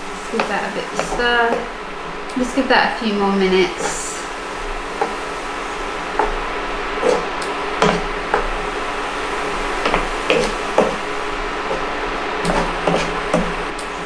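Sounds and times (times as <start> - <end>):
wooden spatula scraping frying pan: 0.0 - 1.8, 2.4 - 13.7
induction hob humming: 0.0 - 14.0.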